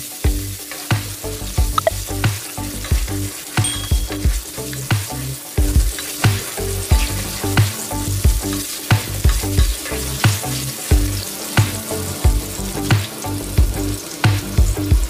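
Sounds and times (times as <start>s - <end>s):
background music with beat: 0.0s - 15.0s
ginger sizzling in hot oil: 0.0s - 15.0s.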